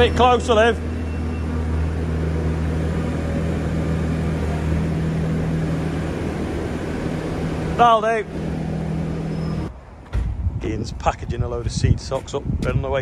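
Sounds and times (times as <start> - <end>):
diesel engine running: 0.0 - 10.7.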